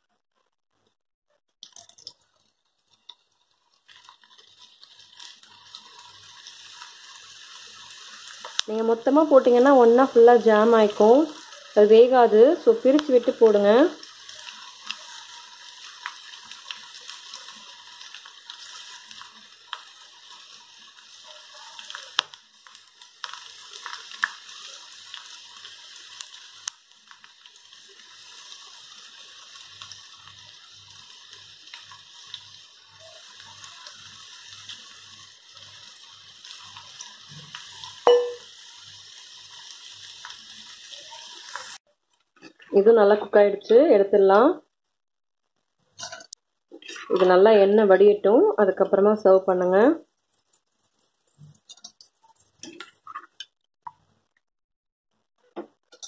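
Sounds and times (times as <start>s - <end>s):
okra deep-frying in hot oil: 0.0s - 54.4s, 55.2s - 56.0s.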